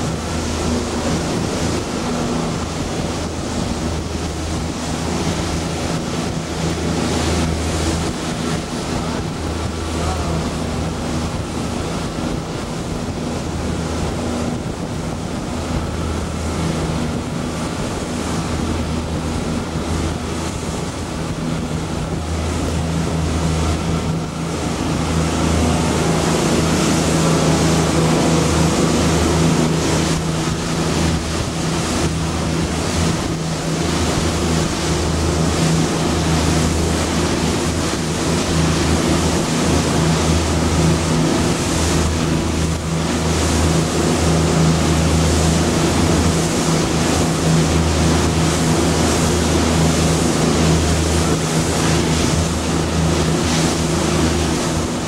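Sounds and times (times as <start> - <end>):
boat engine droning: 0.0 - 55.0
rushing water: 0.0 - 55.0
wind: 0.0 - 55.0.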